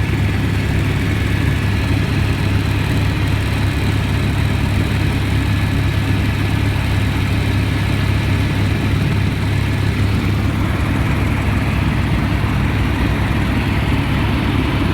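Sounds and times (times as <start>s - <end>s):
helicopter engine and rotor drone: 0.0s - 14.9s.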